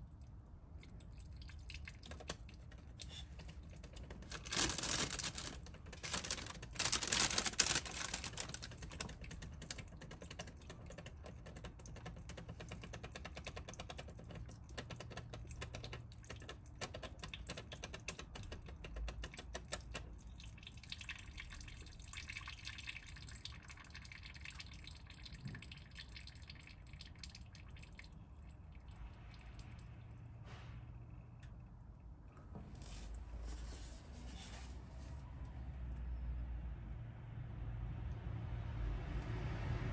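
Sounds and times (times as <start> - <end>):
oil dripping: 0.0 - 32.2.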